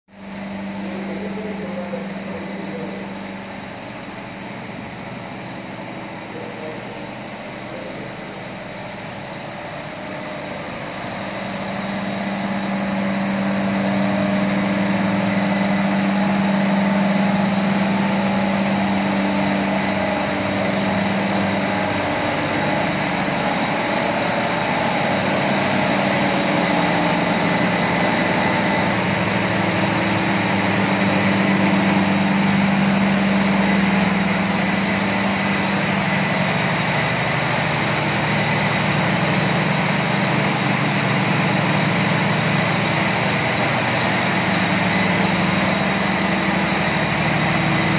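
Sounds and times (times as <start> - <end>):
engine-room machinery drone: 0.1 - 47.9
high machinery whine: 0.1 - 47.9.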